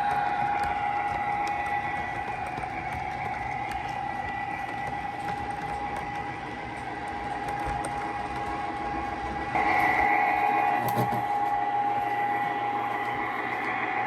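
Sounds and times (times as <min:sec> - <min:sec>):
model train motor whine: 0:00.0 - 0:14.0
wheels rumbling on rails: 0:00.0 - 0:14.0.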